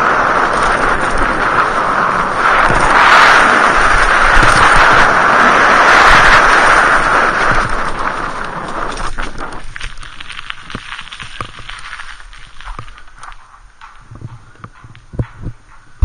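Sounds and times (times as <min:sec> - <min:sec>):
mountain bike rumbling on trail: 0:00.0 - 0:16.0
wind on microphone: 0:00.0 - 0:16.0.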